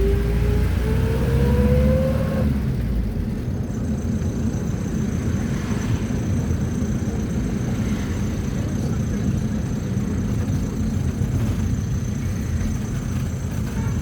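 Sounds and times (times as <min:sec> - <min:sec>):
engine and road rumble: 0:00.0 - 0:14.0
minibus engine whine: 0:00.0 - 0:14.0.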